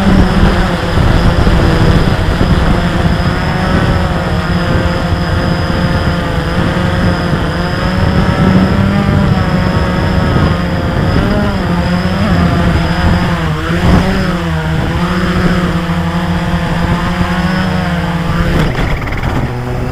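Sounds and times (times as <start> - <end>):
drone propellers buzzing: 0.0 - 19.9.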